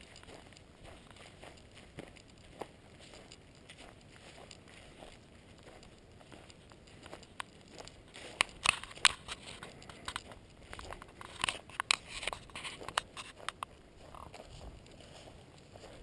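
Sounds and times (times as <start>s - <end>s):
footsteps crunching on dry litter: 0.0s - 16.0s.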